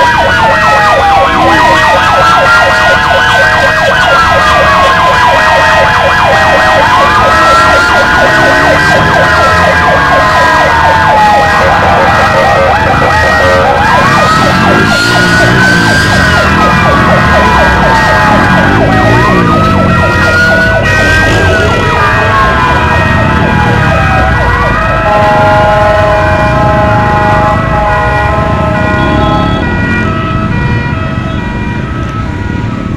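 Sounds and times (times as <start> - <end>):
low traffic rumble: 0.0 - 32.9
siren wail: 0.0 - 32.9
siren warbling yelp: 0.0 - 32.9.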